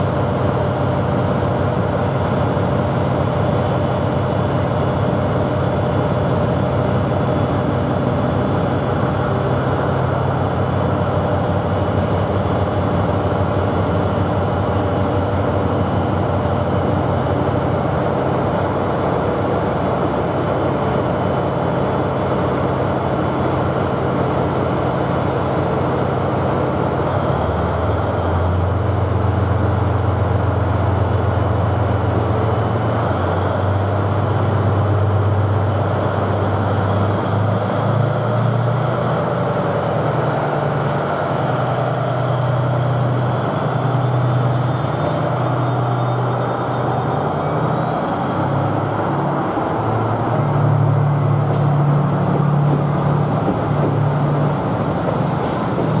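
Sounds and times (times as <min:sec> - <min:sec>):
diesel locomotive idling: 0:00.0 - 0:56.0.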